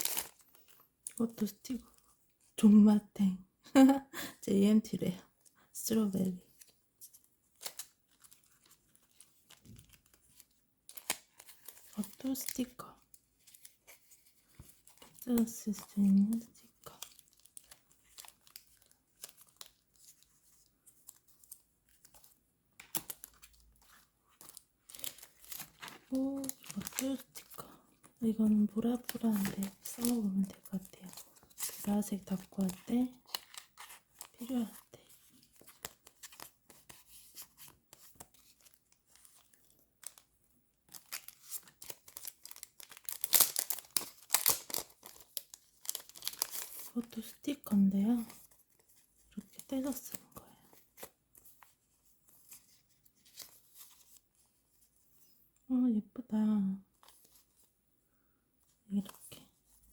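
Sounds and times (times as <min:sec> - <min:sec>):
paper rustling and crinkling: 0:00.0 - 0:00.9, 0:06.4 - 0:27.8, 0:28.4 - 0:47.4, 0:48.1 - 0:55.0, 0:56.9 - 0:57.7.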